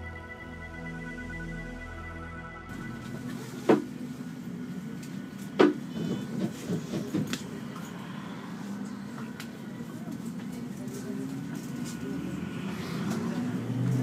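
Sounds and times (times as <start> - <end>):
trolleybus cabin hum: 0.0 - 14.0.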